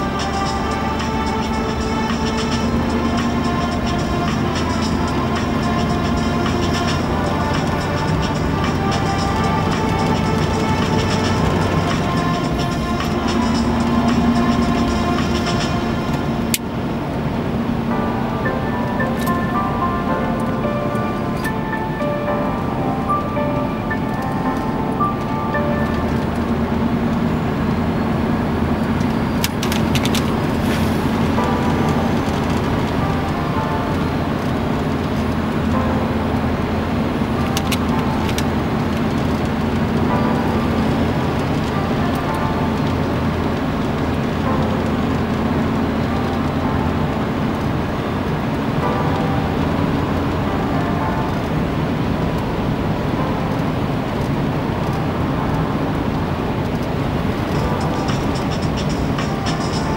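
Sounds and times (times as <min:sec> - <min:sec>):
truck engine drone: 0:00.0 - 0:59.9
tyre and road noise: 0:00.0 - 0:59.9.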